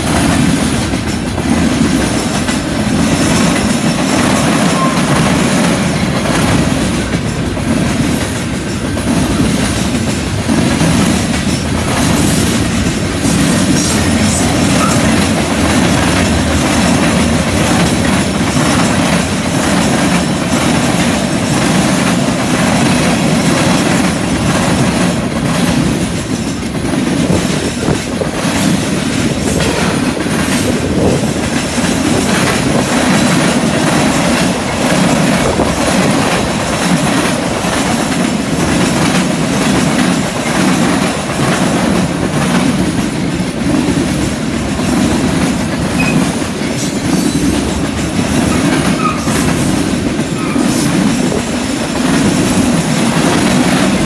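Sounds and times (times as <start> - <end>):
train wheels rumbling on rail: 0.0 - 54.0
wheels clacking over rail joints: 0.0 - 54.0.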